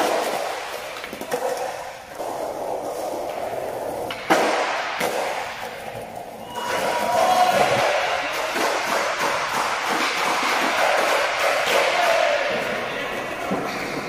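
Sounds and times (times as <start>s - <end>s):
skateboard wheels rolling on tiles: 0.0s - 14.0s.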